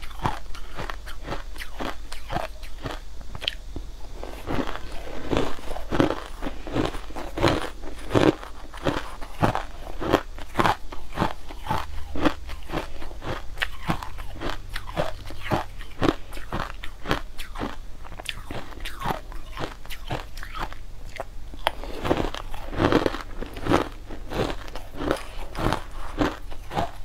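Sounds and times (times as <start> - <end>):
chewing crushed ice: 0.0 - 27.0.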